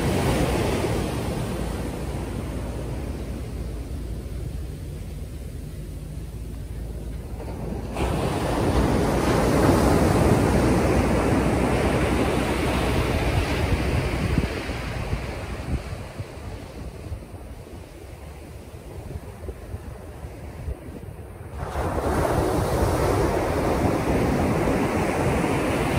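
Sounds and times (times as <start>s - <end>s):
ocean waves breaking: 0.0s - 25.9s
wind buffeting microphone: 0.0s - 25.9s.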